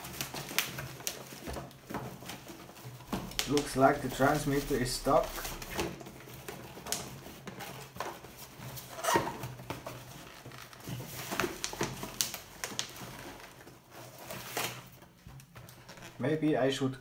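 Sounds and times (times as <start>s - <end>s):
packaging handling clicks and rustles: 0.0s - 16.1s.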